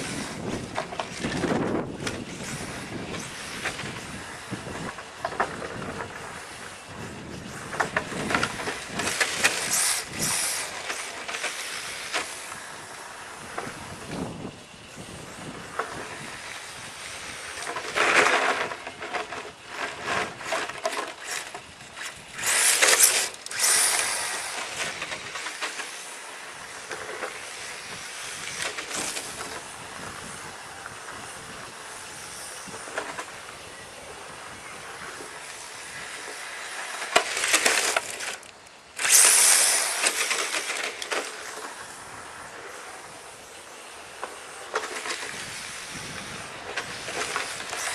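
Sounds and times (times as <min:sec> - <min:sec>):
electric motor whine: 0:00.0 - 0:47.9
tyres scrubbing on asphalt: 0:00.0 - 0:47.9.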